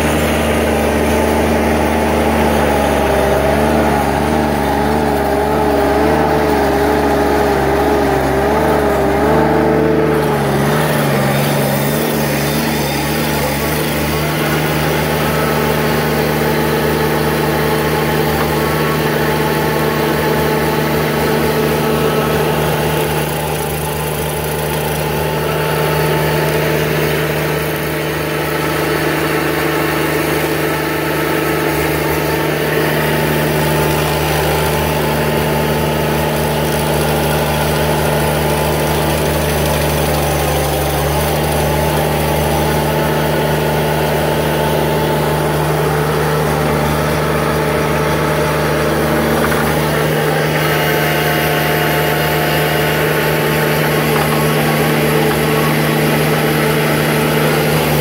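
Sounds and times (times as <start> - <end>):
diesel engine under load: 0.0 - 58.0
stump grinder chewing wood: 0.0 - 58.0.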